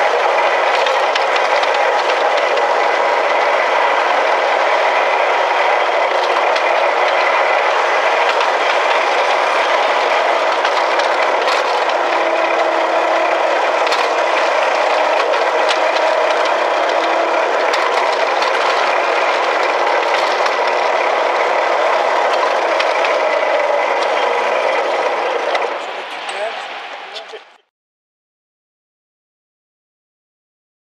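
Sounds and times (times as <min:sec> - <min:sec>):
train wheels rattling on rails: 0:00.0 - 0:27.6.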